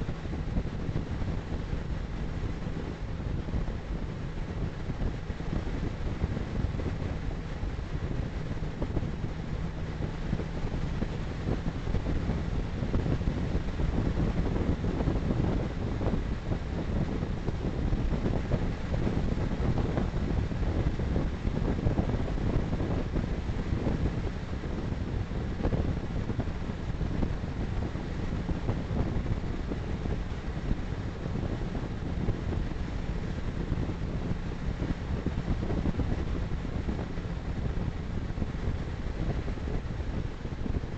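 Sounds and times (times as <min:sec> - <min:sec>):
car road rumble: 0:00.0 - 0:40.9
faint steady hum: 0:00.0 - 0:40.9
wind buffeting microphone: 0:00.0 - 0:40.9.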